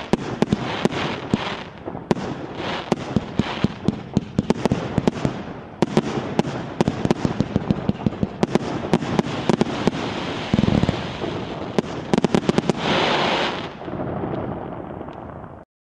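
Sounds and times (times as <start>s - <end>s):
crackling hiss: 0.0s - 15.6s
deep firework boom: 0.0s - 15.6s
fireworks cracks and bangs: 0.0s - 15.6s.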